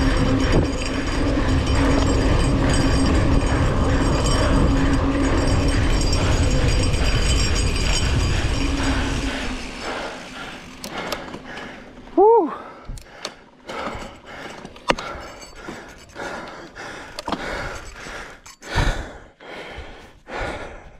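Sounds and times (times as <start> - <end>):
person breathing hard: 0.0 - 20.9.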